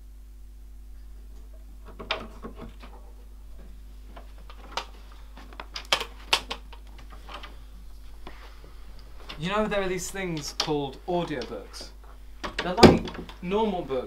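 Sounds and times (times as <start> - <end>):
low hum: 0.0 - 5.4, 7.0 - 14.0.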